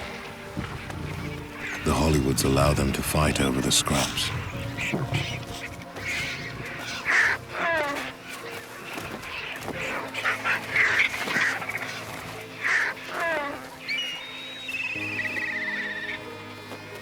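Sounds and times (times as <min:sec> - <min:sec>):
background music: 0:00.0 - 0:17.0
birds calling harshly: 0:00.0 - 0:17.0.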